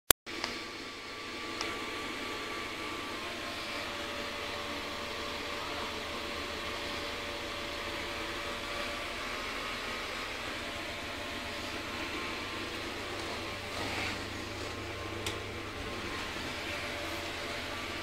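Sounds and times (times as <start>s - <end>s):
low mains hum: 0.4s - 18.0s.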